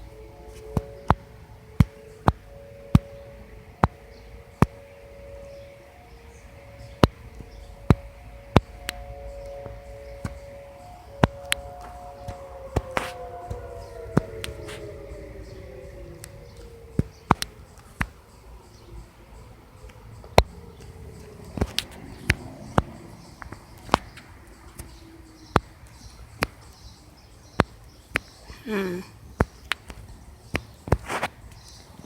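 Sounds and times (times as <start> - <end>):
warning siren winding down: 0.0 - 27.2.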